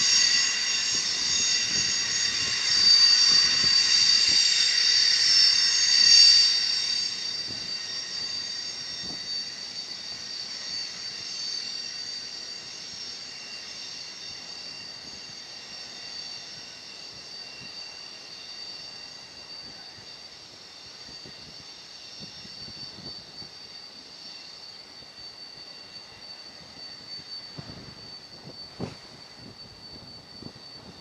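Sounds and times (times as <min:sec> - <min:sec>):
train wheels squealing: 0:00.0 - 0:31.0.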